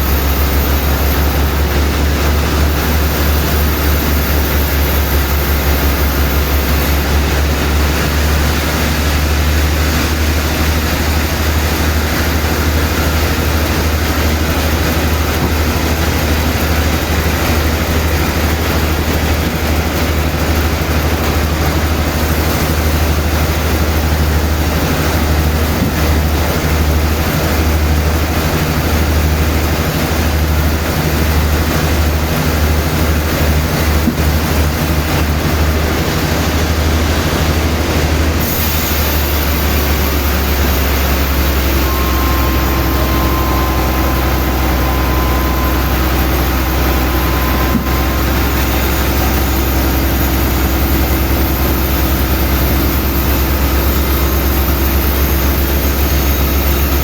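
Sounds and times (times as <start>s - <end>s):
faint steady whine: 0.0s - 57.0s
sawmill machinery rumbling: 0.0s - 57.0s.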